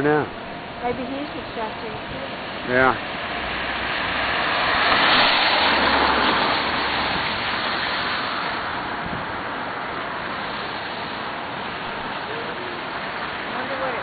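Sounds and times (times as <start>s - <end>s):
tyres hissing on wet street: 0.0s - 14.0s.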